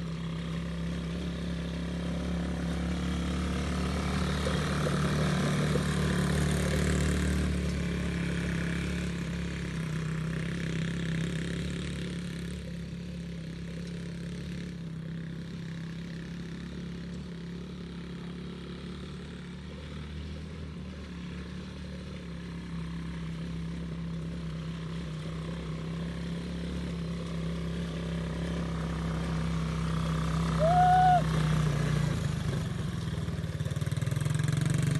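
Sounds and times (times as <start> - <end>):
small off-road engine running: 0.0 - 34.9.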